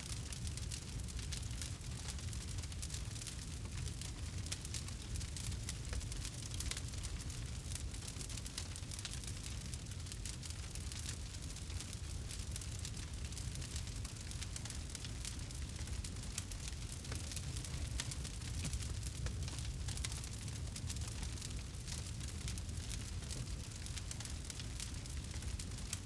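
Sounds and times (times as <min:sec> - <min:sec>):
low rumble of flames: 0:00.0 - 0:26.0
campfire crackling and popping: 0:00.1 - 0:26.0.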